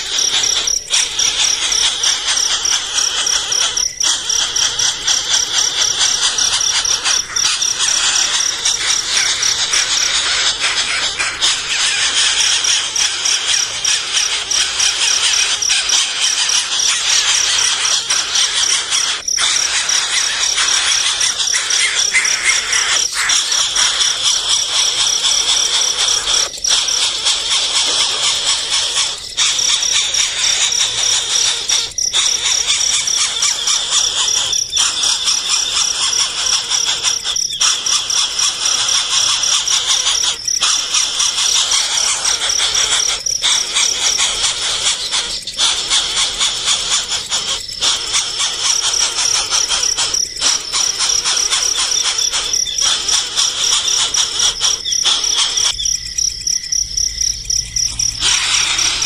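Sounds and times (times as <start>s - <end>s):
baby birds chirping: 0.0s - 59.0s.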